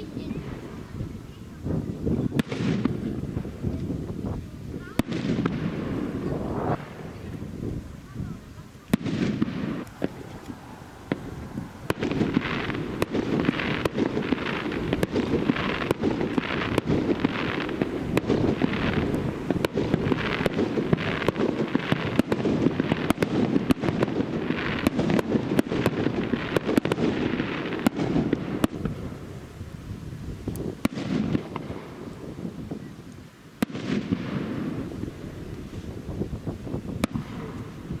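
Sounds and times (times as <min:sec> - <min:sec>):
fireworks cracking and crackling: 0:00.0 - 0:38.0
fireworks rumble: 0:00.0 - 0:38.0.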